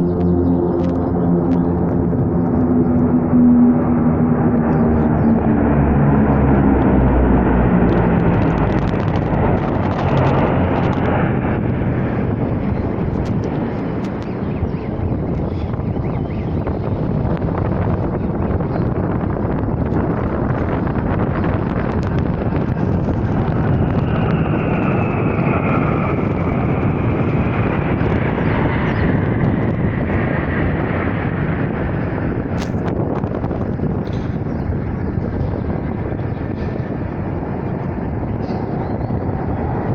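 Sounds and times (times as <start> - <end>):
military aircraft flying overhead: 0.0 - 39.9.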